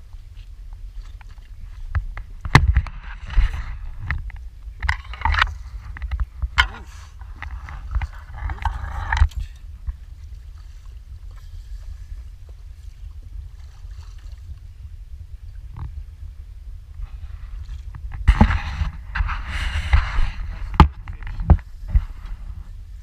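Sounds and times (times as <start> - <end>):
water splashing against boat: 0.0 - 23.0
wind rumbling on microphone: 0.0 - 23.0.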